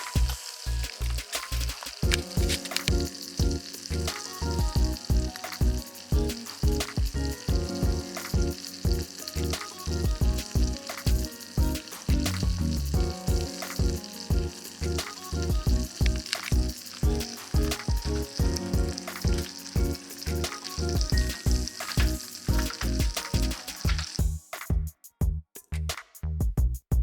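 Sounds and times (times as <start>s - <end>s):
shrimp sizzling in oil: 0.0s - 24.2s
background music with steady beat: 0.0s - 27.0s.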